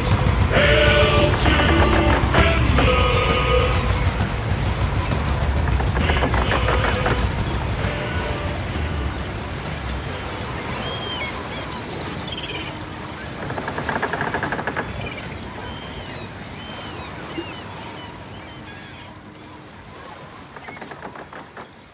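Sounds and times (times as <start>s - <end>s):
birds chirping: 0.0s - 21.9s
rapid rattling bird call: 0.0s - 21.9s
steady rushing wash: 0.0s - 21.9s.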